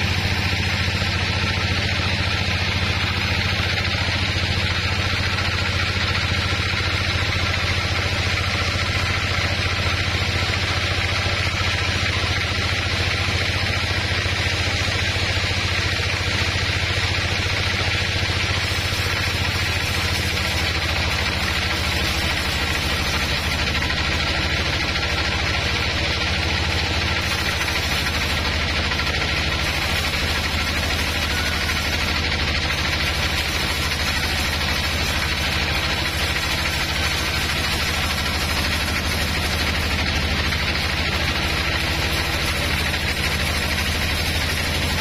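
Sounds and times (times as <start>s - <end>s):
sawmill drive low hum: 0.0s - 45.0s.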